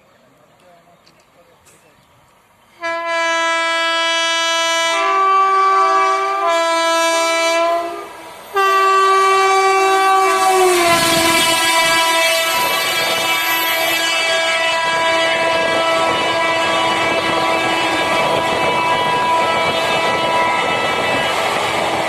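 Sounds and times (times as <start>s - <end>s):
train rumbling on rails: 0.0s - 22.0s
two-note locomotive horn: 2.8s - 21.5s.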